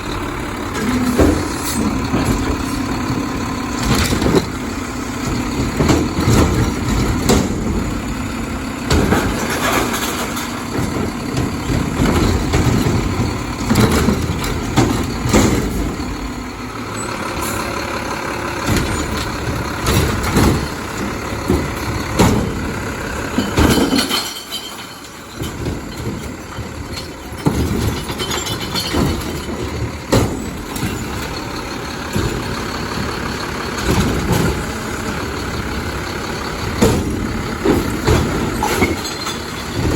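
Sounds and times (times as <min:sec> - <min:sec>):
garbage truck engine running: 0:00.0 - 0:39.9
sharp clanks and knocks: 0:00.0 - 0:39.9.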